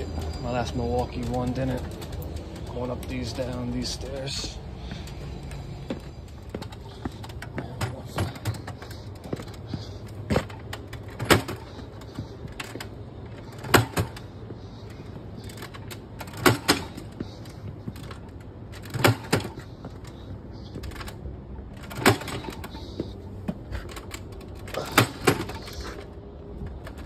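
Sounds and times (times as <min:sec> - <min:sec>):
hand truck bumping down stairs: 0:00.0 - 0:27.0.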